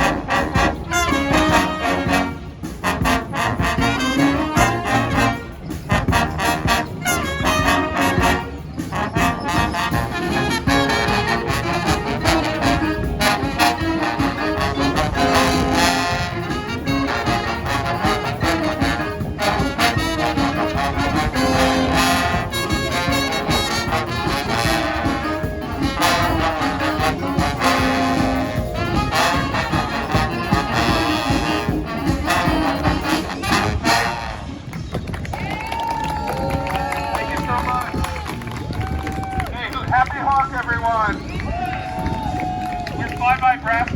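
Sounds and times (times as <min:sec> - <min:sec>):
brass band playing: 0:00.0 - 0:34.8, 0:36.2 - 0:43.9
percussion beat: 0:00.0 - 0:43.9.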